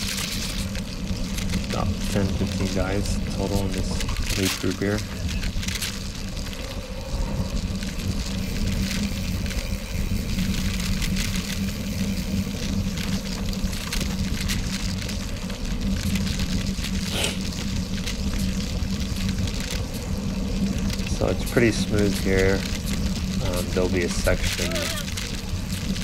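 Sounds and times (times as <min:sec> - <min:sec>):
small crunches and clicks: 0:00.0 - 0:26.0
steady low hum: 0:00.0 - 0:26.0
tyres rolling on gravel: 0:00.0 - 0:26.0
wind rushing over camera: 0:00.0 - 0:26.0.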